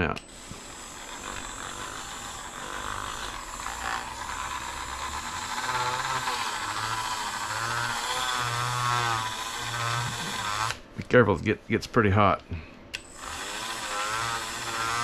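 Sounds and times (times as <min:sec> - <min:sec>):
rotary tool running at high speed: 0:00.2 - 0:10.8, 0:13.0 - 0:15.0.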